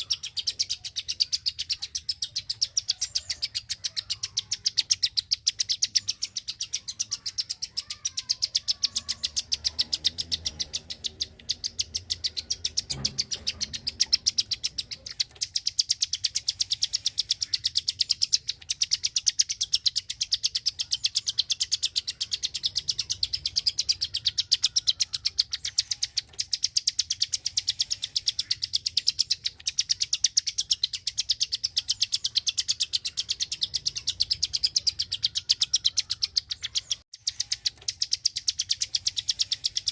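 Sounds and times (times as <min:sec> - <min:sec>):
songbird rapid clicking notes: 0:00.0 - 0:39.9.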